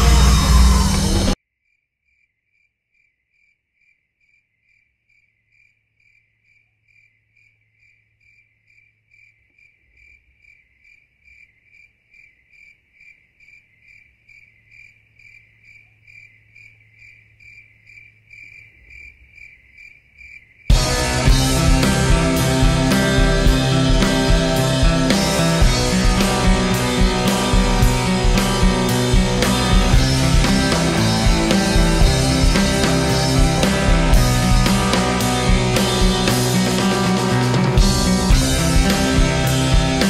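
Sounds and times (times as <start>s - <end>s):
crickets chirping: 1.6s - 40.0s.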